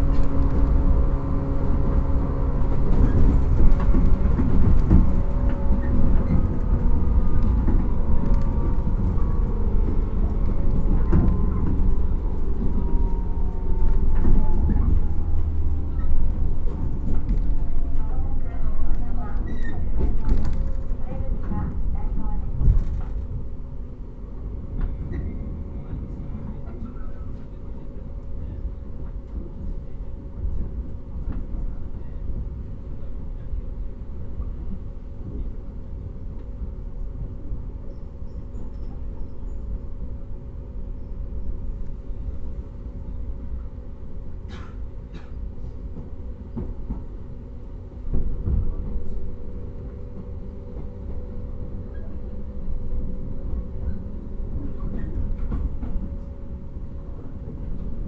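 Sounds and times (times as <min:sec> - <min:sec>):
train running rumble and hum: 0:00.0 - 0:58.0.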